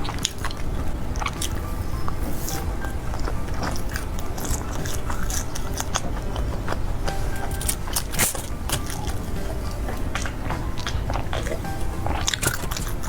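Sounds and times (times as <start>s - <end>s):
chewing and biting food: 0.0s - 13.0s
crackly mouth clicks: 0.0s - 13.0s.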